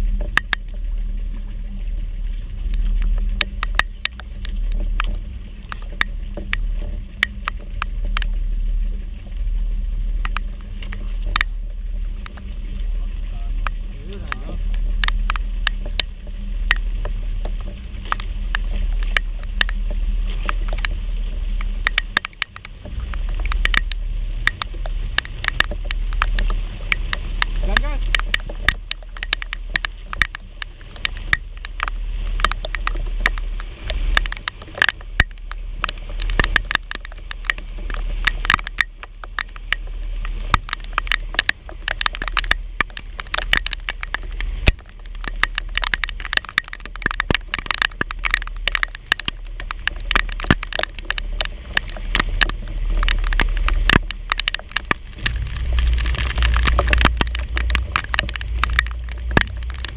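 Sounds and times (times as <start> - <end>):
rain drops hitting hard surfaces: 0.0 - 59.9
steady low rumble: 0.0 - 59.9.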